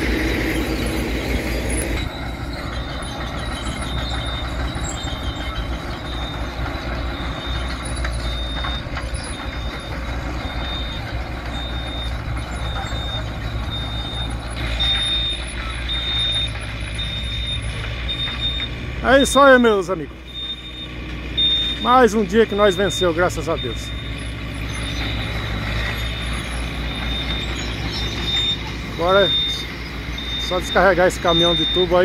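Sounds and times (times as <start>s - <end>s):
diesel engines running: 0.0s - 32.0s
reversing alarm beeping: 0.0s - 32.0s.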